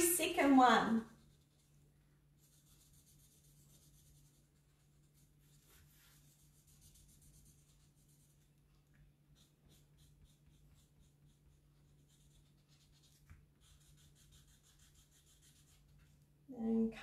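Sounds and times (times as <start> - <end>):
marker scratching on paper: 0.0 - 16.2.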